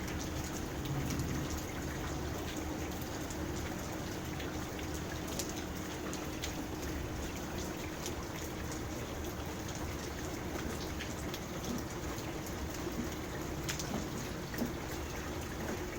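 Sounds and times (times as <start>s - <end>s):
rain falling on a pond: 0.0s - 15.9s.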